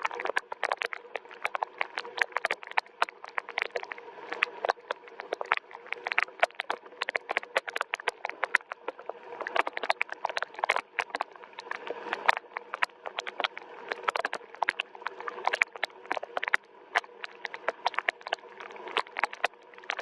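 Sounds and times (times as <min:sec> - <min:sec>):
drips tapping on hard surface: 0:00.0 - 0:20.0.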